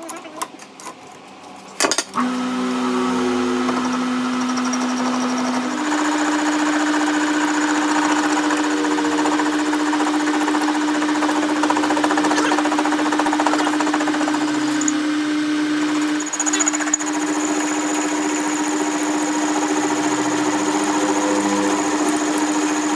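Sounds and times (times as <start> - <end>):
machine motor with fast rattle: 1.3 - 22.9.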